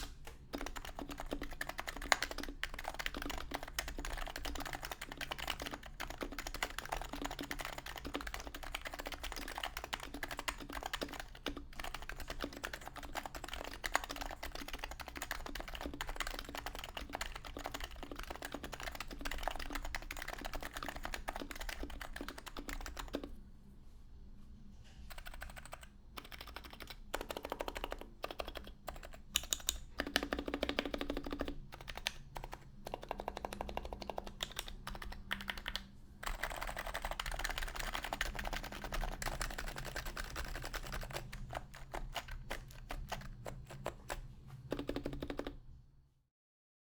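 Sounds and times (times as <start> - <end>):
fast typing on a keyboard: 0.0 - 23.3, 25.1 - 45.6.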